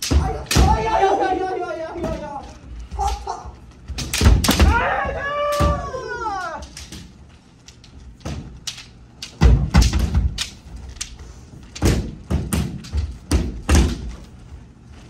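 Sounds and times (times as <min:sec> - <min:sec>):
bamboo swords striking: 0:00.0 - 0:01.2, 0:02.0 - 0:14.2.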